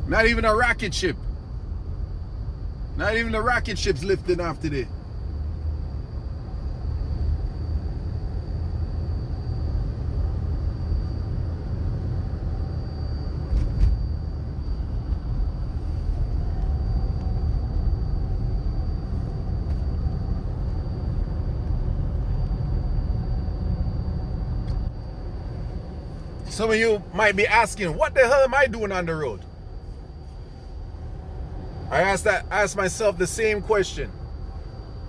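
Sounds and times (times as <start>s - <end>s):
faint high whine: 0.0s - 35.0s.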